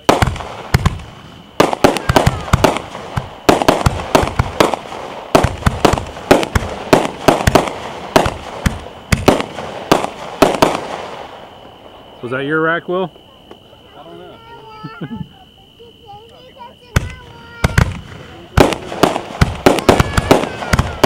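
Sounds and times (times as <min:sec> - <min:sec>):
fireworks bangs and crackling: 0:00.0 - 0:13.7, 0:16.2 - 0:21.0.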